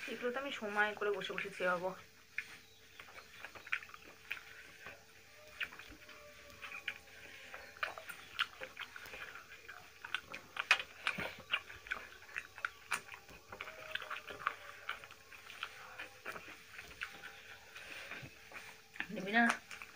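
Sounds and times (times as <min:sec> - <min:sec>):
chewing and mouth clicks: 0:00.0 - 0:19.9.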